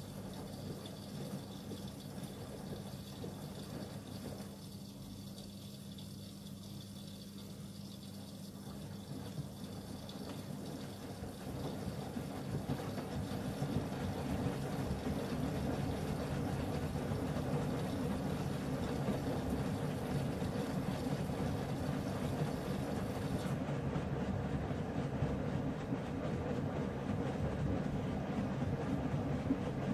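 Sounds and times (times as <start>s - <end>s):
washing machine rumbling: 0.0s - 29.9s.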